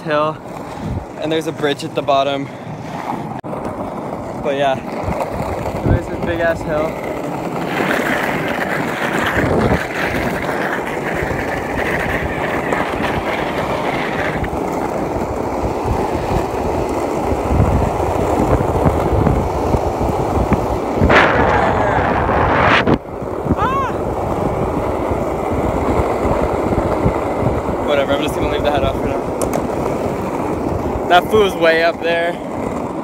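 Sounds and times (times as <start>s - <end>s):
rushing wind noise on microphone: 0.0s - 1.5s, 4.7s - 7.0s, 7.6s - 32.4s.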